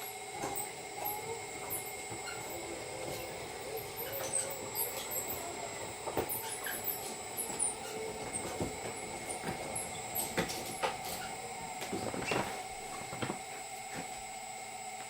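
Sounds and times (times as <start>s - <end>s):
hand truck wheels rattling: 0.0s - 13.5s.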